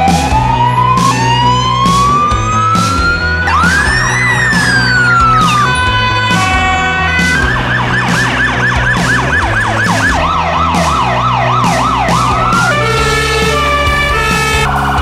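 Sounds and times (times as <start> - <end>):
emergency vehicle sirens: 0.0 - 15.0.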